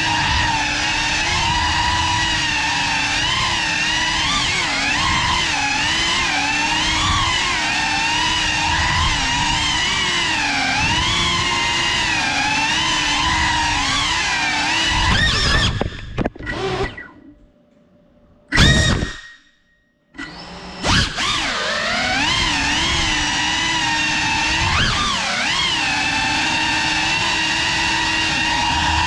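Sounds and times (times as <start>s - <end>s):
drone motors whining: 0.0s - 17.4s, 18.5s - 19.5s, 20.2s - 29.0s.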